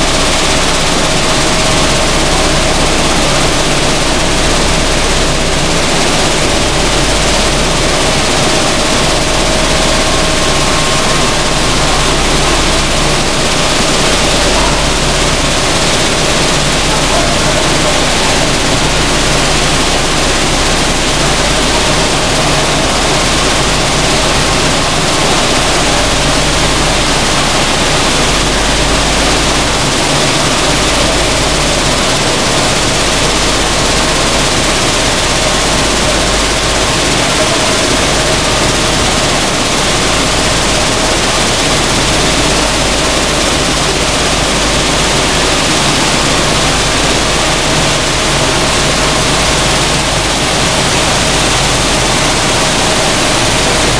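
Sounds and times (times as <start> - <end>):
seed hulling machine running: 0.0 - 53.9.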